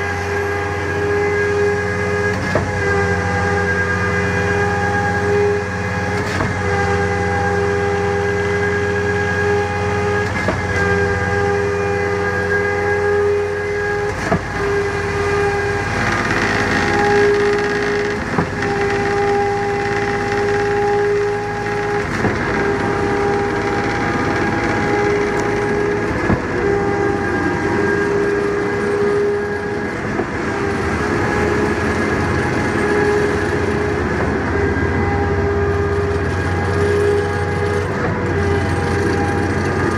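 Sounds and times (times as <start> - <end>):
concrete pump engine and hydraulic whine: 0.0 - 39.9.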